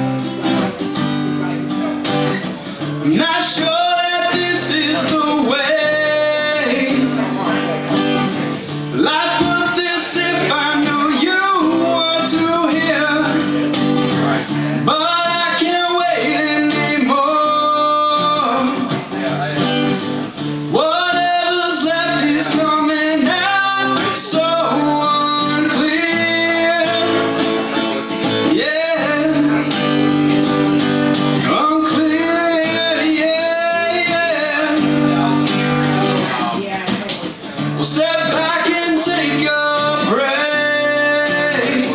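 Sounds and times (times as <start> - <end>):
guitar accompaniment: 0.0 - 41.9
man singing: 0.0 - 41.9.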